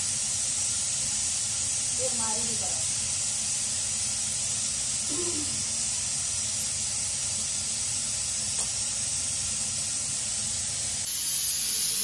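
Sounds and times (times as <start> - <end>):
deep-frying sizzle in hot oil: 0.0 - 12.0.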